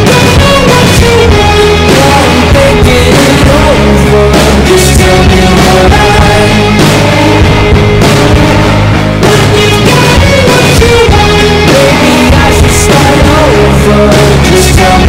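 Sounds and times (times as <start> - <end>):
rock-pop song with singing: 0.0 - 15.0.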